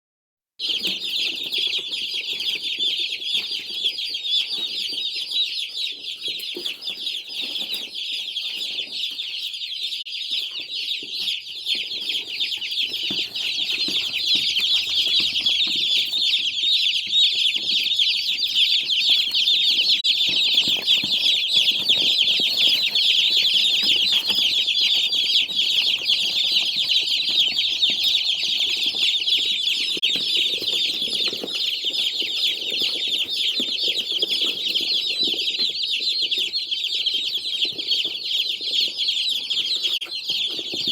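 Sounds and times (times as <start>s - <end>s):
chicks peeping: 0.6s - 40.9s.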